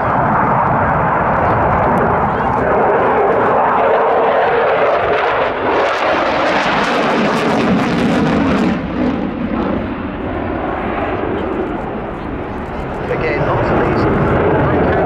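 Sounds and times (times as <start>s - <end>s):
jet roar with crackling rasp: 0.0s - 15.0s.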